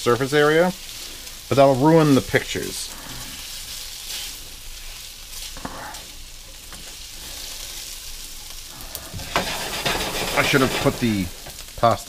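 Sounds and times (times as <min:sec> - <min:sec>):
meatballs sizzling in a frying pan: 0:00.0 - 0:12.0.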